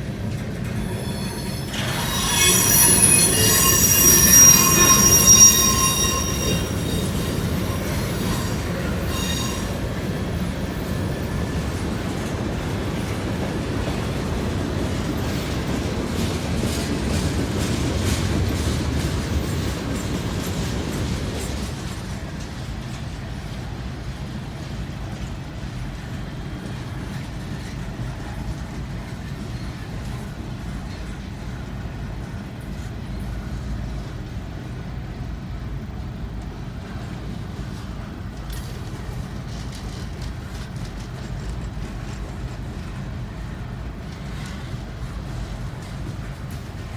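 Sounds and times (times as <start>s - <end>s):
wheels clicking on rails: 0.0s - 31.3s, 37.7s - 46.9s
freight train rumbling past: 0.0s - 46.9s
train wheel squeal: 0.0s - 46.9s.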